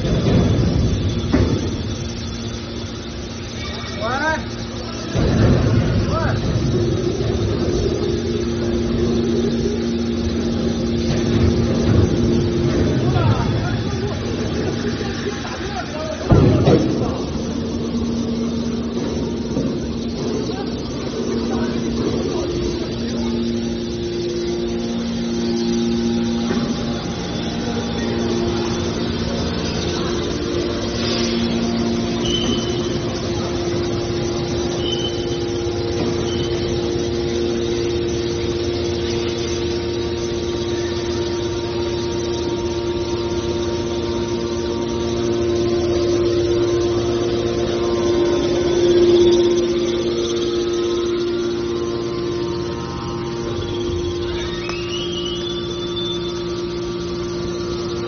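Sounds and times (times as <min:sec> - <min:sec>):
hydraulic power unit humming: 0:00.0 - 0:58.0.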